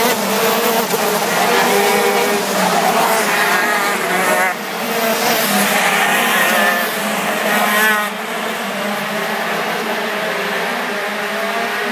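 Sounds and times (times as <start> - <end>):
kart engines racing: 0.0 - 11.9.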